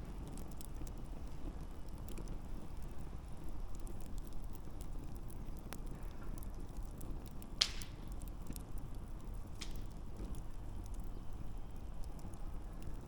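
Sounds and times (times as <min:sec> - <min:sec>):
fire crackling and popping: 0:00.0 - 0:13.0
low rumble of fire: 0:00.0 - 0:13.0.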